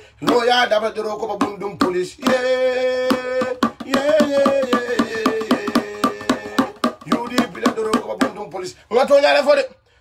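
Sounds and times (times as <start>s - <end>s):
man chanting: 0.0s - 9.8s
hand drum beaten with stick: 0.2s - 8.6s.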